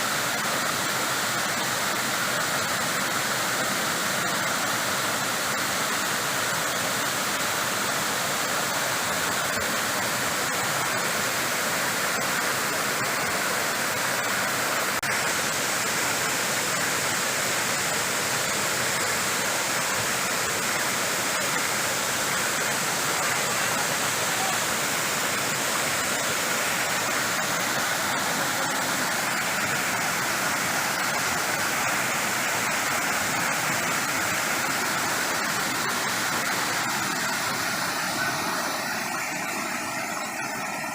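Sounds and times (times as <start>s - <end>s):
waterfall crashing: 0.0s - 40.9s.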